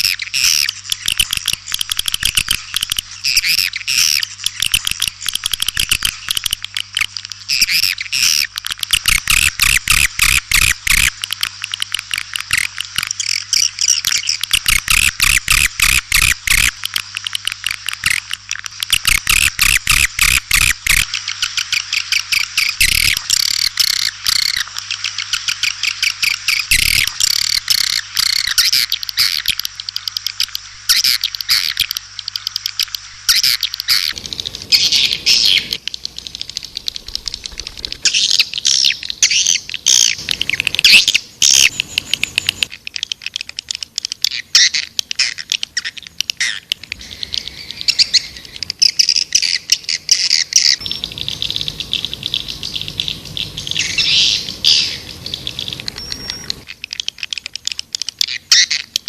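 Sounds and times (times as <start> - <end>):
swiftlets twittering: 0.0 - 42.7, 47.0 - 57.2.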